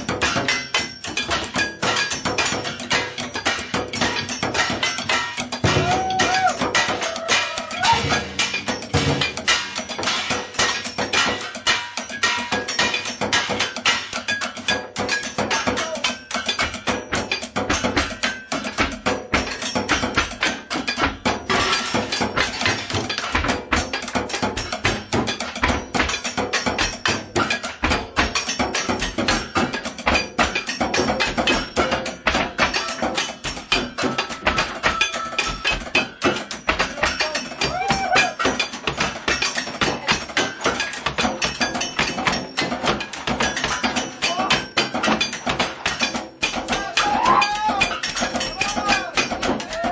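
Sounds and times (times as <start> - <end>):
drumming on kitchen objects: 0.0 - 49.9.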